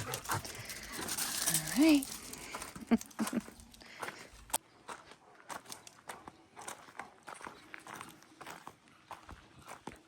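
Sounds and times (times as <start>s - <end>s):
faint footsteps: 0.0s - 10.0s.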